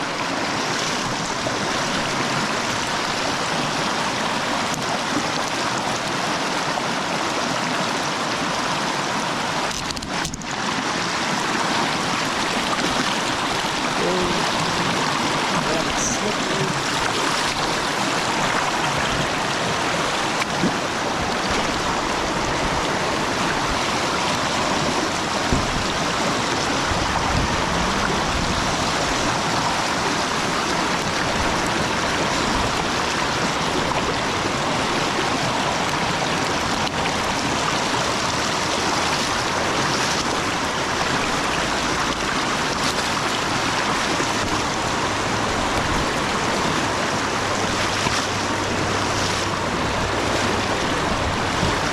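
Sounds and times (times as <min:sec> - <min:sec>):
river water flowing: 0:00.0 - 0:51.9.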